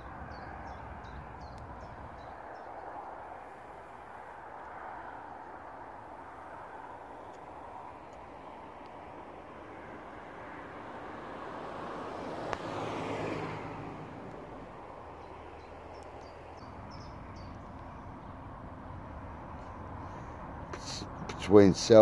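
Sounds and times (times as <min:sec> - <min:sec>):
background traffic noise: 0:00.0 - 0:22.0
vehicle passing: 0:00.0 - 0:22.0.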